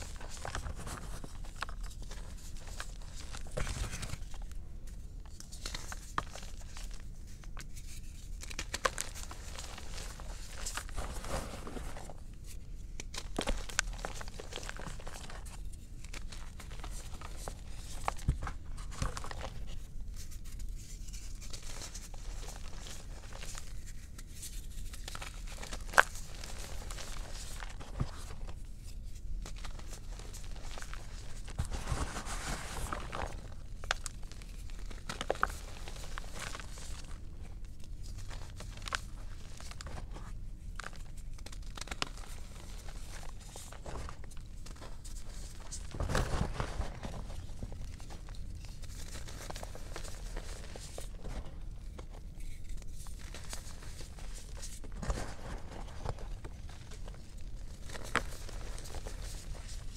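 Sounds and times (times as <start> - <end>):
chalk crunching and crackling: 0.0 - 59.9.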